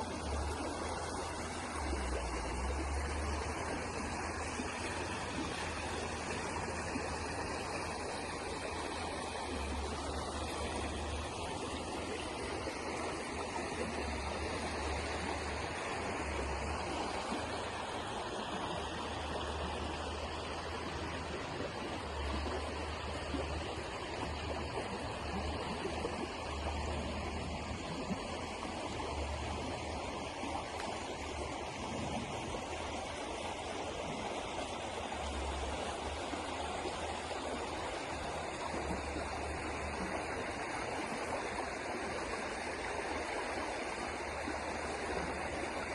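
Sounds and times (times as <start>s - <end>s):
river water rushing and gurgling: 0.0s - 45.9s.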